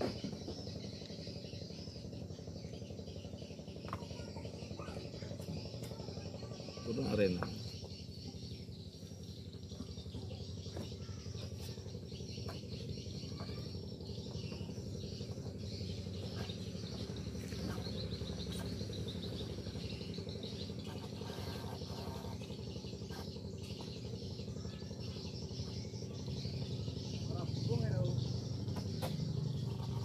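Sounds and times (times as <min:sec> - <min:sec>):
birds chirping: 0:00.0 - 0:30.0
insects trilling: 0:00.0 - 0:30.0.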